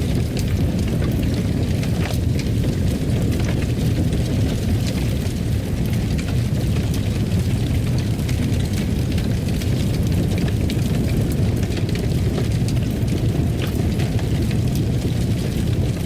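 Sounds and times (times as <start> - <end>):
fire burning with low roar: 0.0 - 16.0
fire crackling and popping: 0.0 - 16.0.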